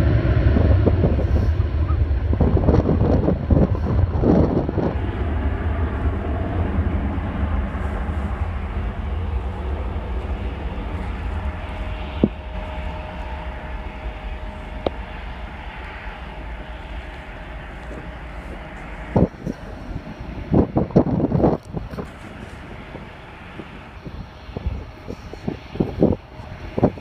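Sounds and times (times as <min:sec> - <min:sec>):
distant jet engines roaring: 0:00.0 - 0:27.0.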